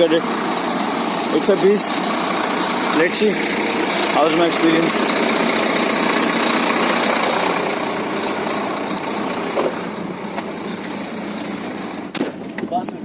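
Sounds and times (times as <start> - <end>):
diesel truck engine humming: 0.0 - 13.0.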